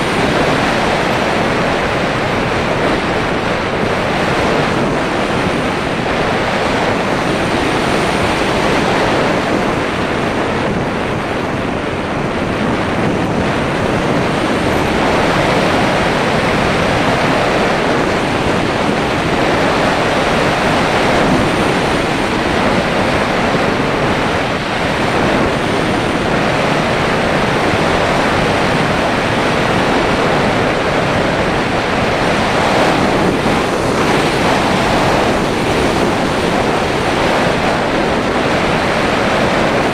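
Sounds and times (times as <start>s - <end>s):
airflow rushing over microphone: 0.0s - 39.9s.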